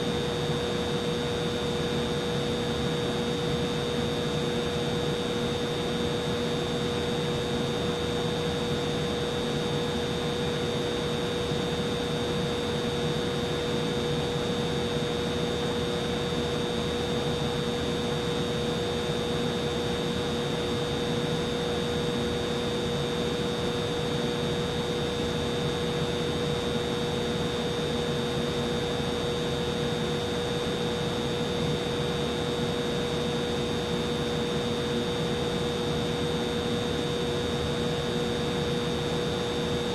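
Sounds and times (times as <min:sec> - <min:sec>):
humidifier whirring: 0:00.0 - 0:39.9.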